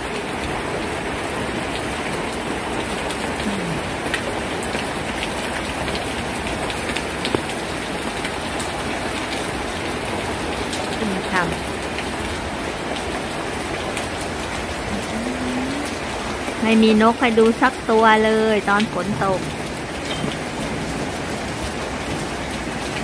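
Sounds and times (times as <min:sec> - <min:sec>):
rain falling on a garden: 0:00.0 - 0:23.0.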